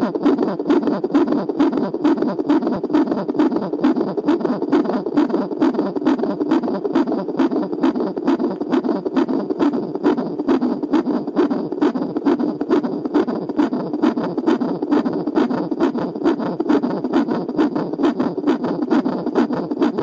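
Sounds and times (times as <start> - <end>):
rhythmic whooshing heartbeat pulse: 0.0 - 20.0.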